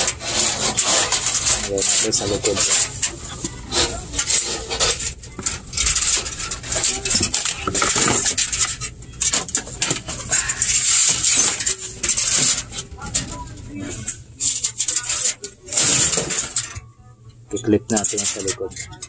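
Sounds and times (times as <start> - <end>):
metal tube scraping on coil fins: 0.0 - 16.8.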